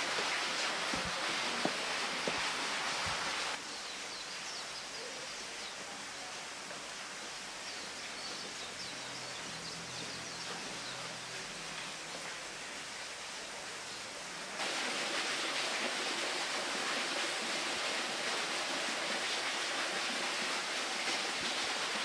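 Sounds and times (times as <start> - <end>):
running water hissing: 0.0 - 22.0.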